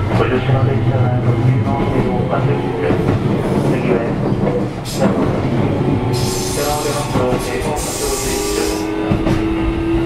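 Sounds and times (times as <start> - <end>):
train rolling rumble: 0.0 - 10.0.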